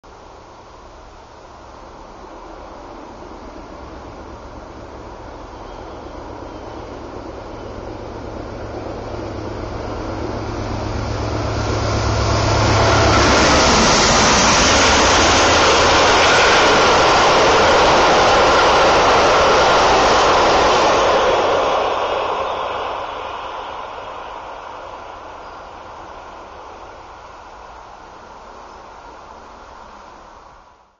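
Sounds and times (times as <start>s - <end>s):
train cars rolling over rails: 2.7s - 27.8s.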